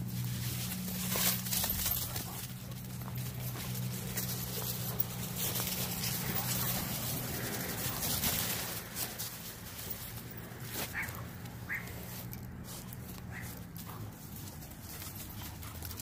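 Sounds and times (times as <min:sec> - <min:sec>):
dry leaves rustling and crunching: 0:00.0 - 0:16.0
paws scuffling in leaves: 0:00.0 - 0:16.0.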